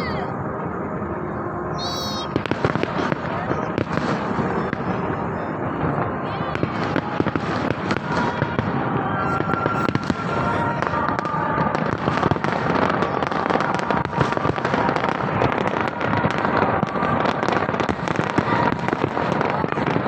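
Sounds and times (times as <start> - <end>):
fireworks bangs and crackling: 0.1 - 20.0.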